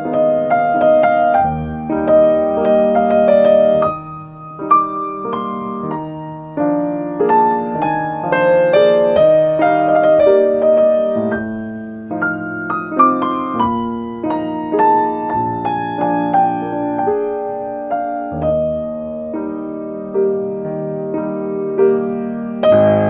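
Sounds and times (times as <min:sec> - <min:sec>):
solo piano music: 0:00.0 - 0:23.0.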